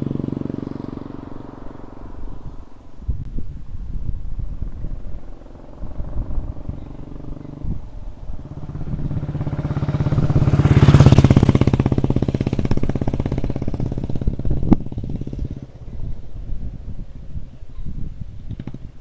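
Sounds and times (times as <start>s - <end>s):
motorcycle engine passing by: 0.0s - 19.0s.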